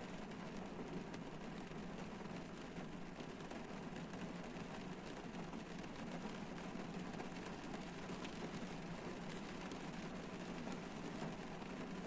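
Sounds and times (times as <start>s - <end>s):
rain on a car roof: 0.0s - 12.0s.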